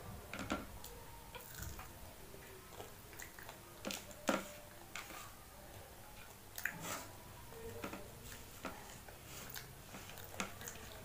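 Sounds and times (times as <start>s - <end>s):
child chewing: 0.4s - 11.0s.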